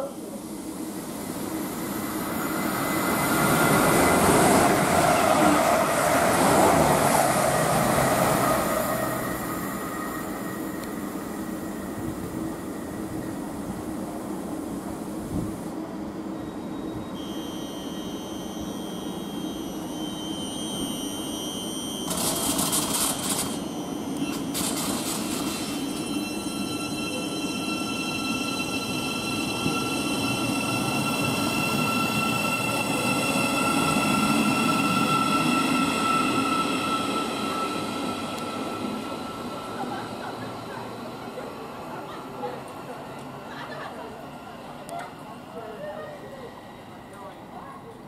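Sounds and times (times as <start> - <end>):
electric train whine: 0.0 - 48.0.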